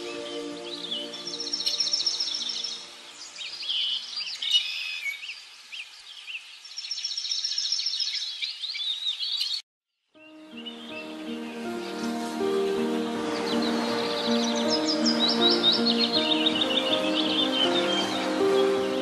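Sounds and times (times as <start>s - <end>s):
birds chirping and whistling: 0.0s - 9.6s, 10.3s - 19.0s.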